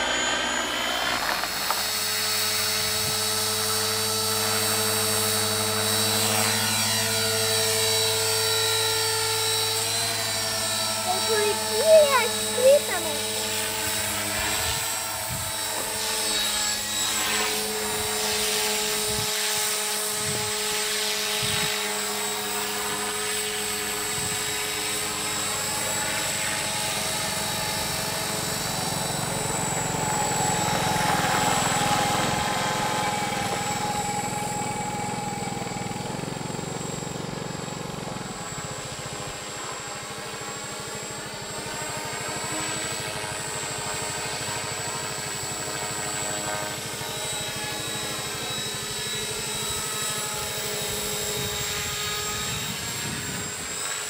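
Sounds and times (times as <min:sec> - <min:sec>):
model helicopter rotor whine: 0:00.0 - 0:54.0.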